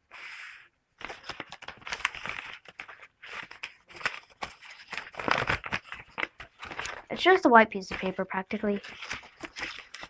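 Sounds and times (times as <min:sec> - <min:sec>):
paper rustling and crackling: 0:01.0 - 0:10.0.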